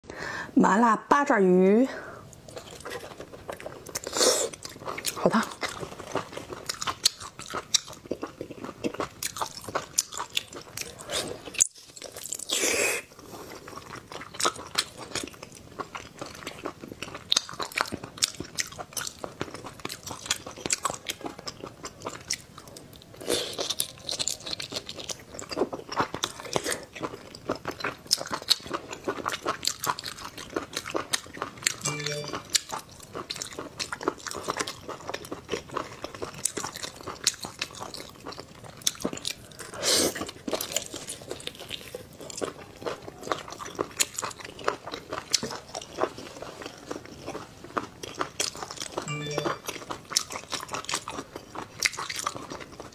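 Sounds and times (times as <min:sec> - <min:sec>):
chewing and biting: 0:02.3 - 0:52.9.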